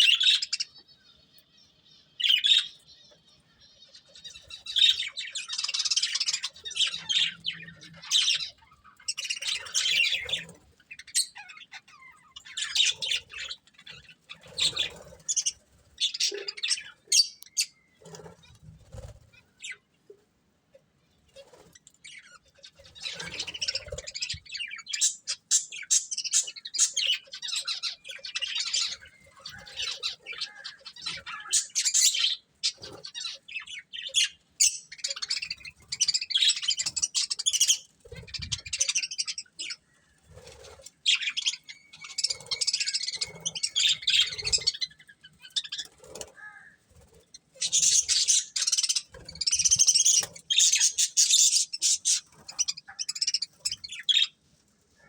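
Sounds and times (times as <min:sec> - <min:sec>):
budgerigars chirping: 0:00.0 - 0:19.9, 0:22.0 - 0:54.4.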